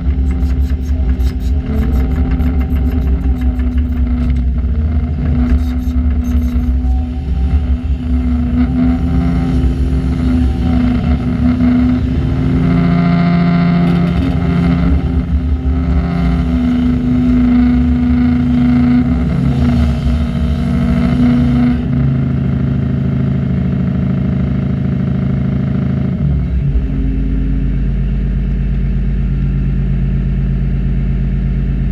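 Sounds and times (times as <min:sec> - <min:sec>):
diesel construction engines running: 0:00.0 - 0:31.9.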